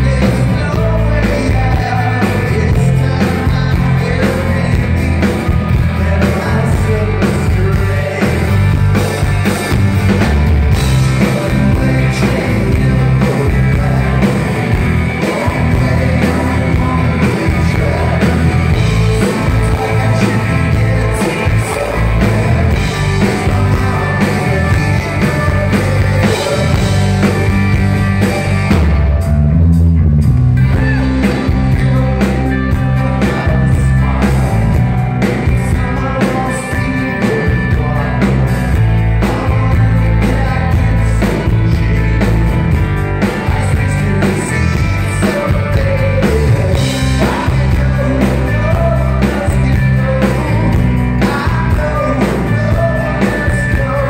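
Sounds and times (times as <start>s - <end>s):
man singing: 0.0s - 28.9s, 30.6s - 54.0s
live rock band playing: 0.0s - 54.0s.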